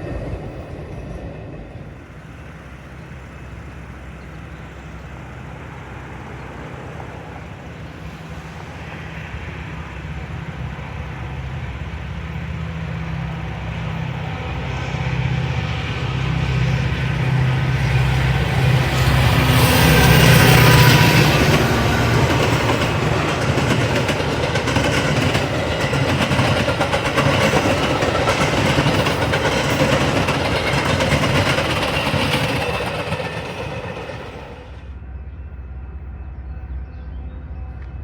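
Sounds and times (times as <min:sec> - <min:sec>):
train passing on rails: 0:00.0 - 0:38.0.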